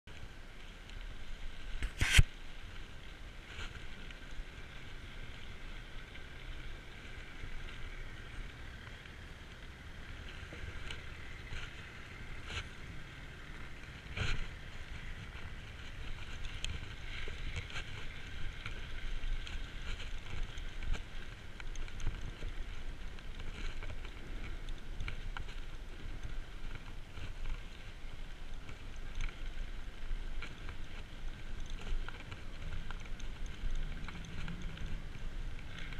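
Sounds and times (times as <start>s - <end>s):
tyre and wind noise: 0.1s - 35.9s
bike clicks and rattles: 0.2s - 35.9s.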